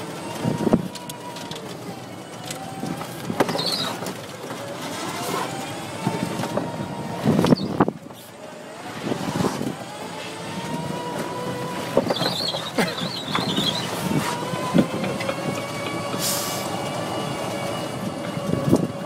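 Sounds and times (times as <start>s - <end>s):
cart rumble: 0.0s - 19.0s
golf cart motor whine: 0.0s - 19.0s.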